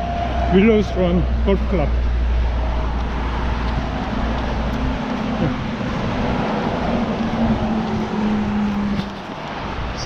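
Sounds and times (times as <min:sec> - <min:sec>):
deep rumble: 0:00.0 - 0:09.2
tyres and engines hissing: 0:00.0 - 0:10.0.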